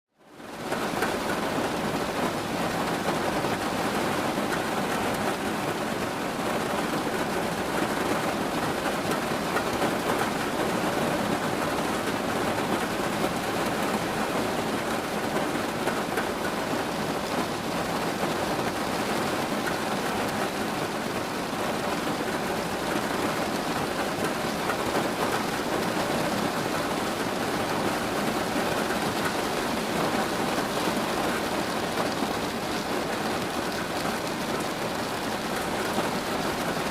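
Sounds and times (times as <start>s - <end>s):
steady rain hiss: 0.2s - 36.9s.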